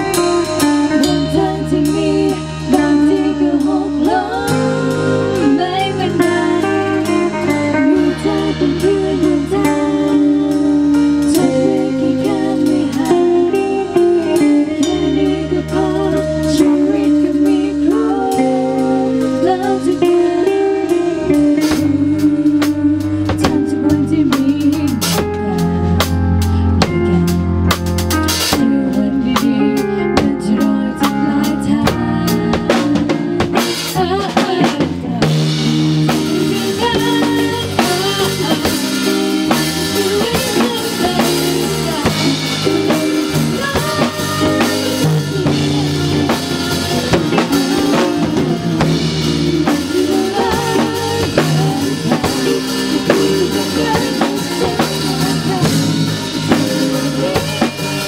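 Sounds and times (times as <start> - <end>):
women singing pop song: 0.0 - 26.0, 28.5 - 58.0
drum kit: 0.0 - 58.0
electric keyboard: 0.0 - 58.0.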